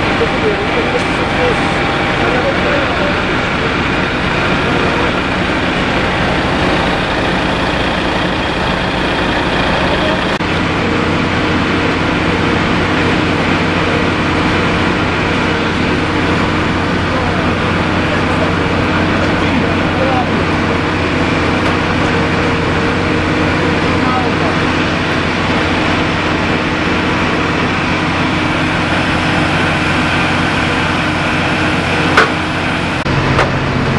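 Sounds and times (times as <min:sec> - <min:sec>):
diesel engines droning: 0:00.0 - 0:33.9
rushing noise: 0:00.0 - 0:33.9.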